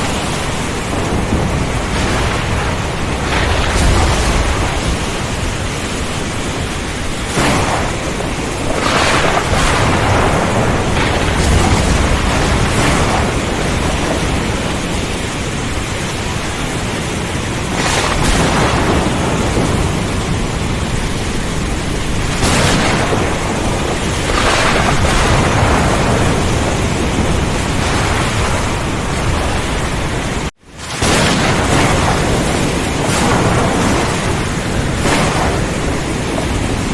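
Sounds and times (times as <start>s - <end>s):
heavy rain and wind: 0.0s - 36.9s
low rumble of thunder: 0.0s - 36.9s
sharp thunder crashes: 0.0s - 36.9s.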